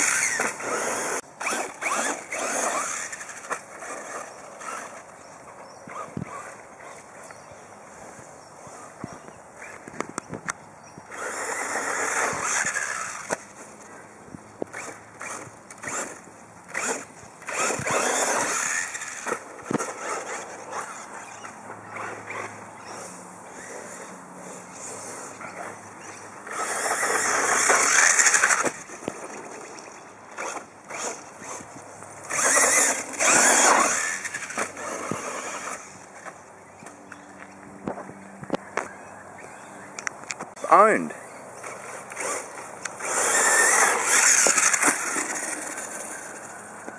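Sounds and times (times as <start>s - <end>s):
tyres scrabbling on dirt: 0.0s - 7.4s, 11.1s - 14.0s, 14.6s - 38.2s, 41.6s - 46.9s
radio-controlled car motor surging: 0.0s - 10.4s, 11.0s - 13.9s, 14.6s - 36.4s, 41.6s - 46.9s.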